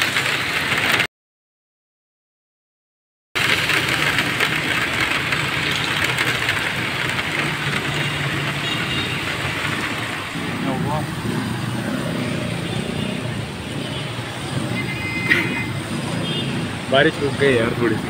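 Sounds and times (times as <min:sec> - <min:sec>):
heavy rain pouring: 0:00.0 - 0:01.1, 0:03.4 - 0:18.0.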